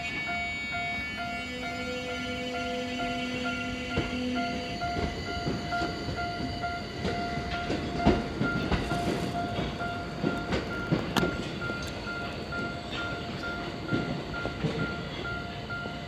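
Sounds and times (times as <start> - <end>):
level-crossing warning bell: 0.0 - 16.0
train wheels clacking on rail joints: 0.1 - 16.0.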